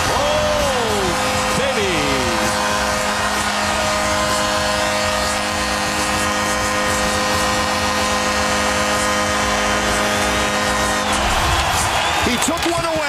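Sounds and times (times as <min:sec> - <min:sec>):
constant hum of steady tones: 0:00.0 - 0:12.8
arena crowd cheering: 0:00.0 - 0:13.0.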